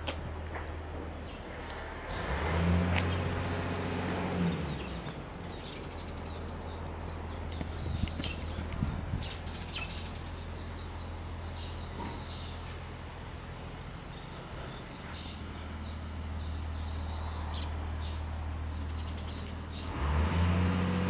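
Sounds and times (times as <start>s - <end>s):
small birds chirping: 1.2s - 20.1s.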